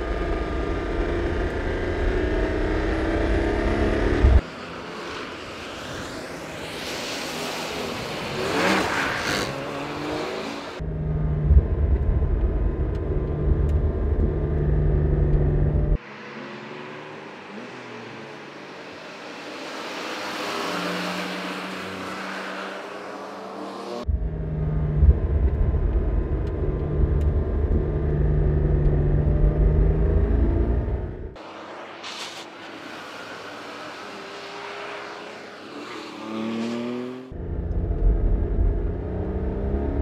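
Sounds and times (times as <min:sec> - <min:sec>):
car passing trackside: 0:00.0 - 0:40.0.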